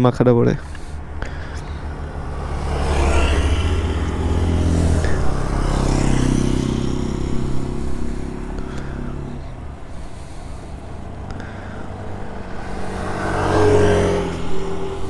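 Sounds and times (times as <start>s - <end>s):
vehicle engine passing: 0.6s - 15.0s.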